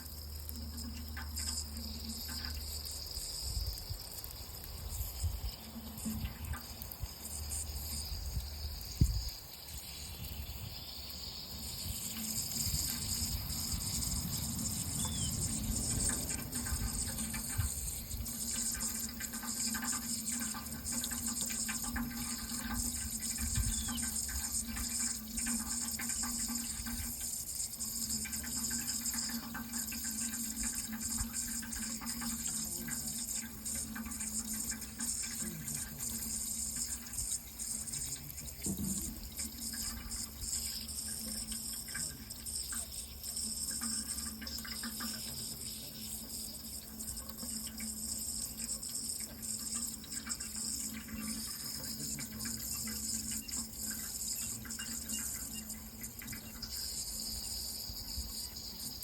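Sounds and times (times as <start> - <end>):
running water pouring: 0.0 - 59.0.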